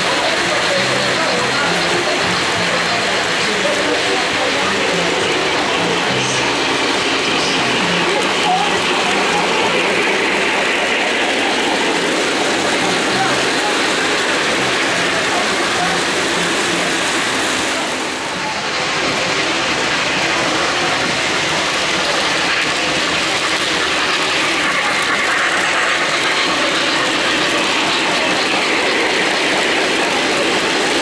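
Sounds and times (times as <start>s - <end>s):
model train wheels clattering on rails: 0.0s - 31.0s.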